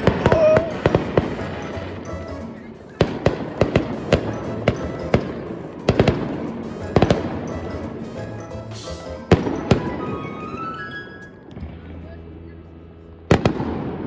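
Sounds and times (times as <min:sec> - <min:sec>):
fireworks bangs: 0:00.0 - 0:12.0, 0:13.3 - 0:14.0
fireworks crackling: 0:00.0 - 0:12.1, 0:13.2 - 0:14.0.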